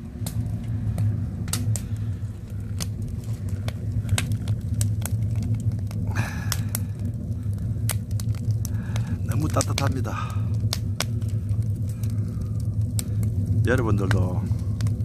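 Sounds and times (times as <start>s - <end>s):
steady low rumble: 0.0s - 15.0s
wood fire crackling: 0.0s - 15.0s
sharp pops and snaps: 0.2s - 15.0s.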